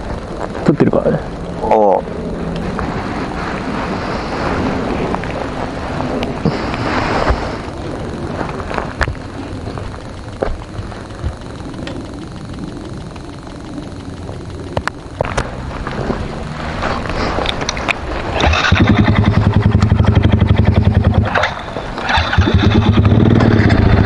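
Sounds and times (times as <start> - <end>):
motorcycle engine running: 0.0 - 24.0
wind noise: 0.0 - 24.0.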